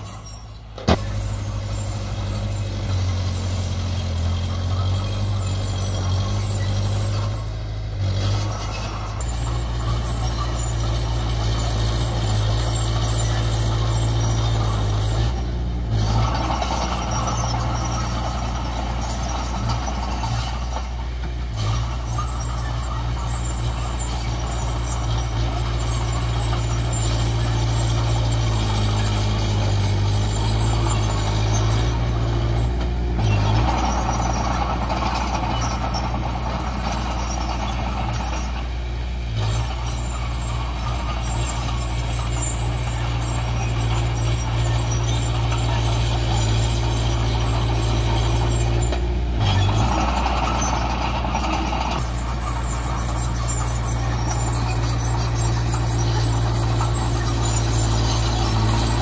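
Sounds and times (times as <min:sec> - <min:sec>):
bulldozer diesel engine running: 0:00.0 - 0:59.0
heavier rough engine noise: 0:00.0 - 0:59.0.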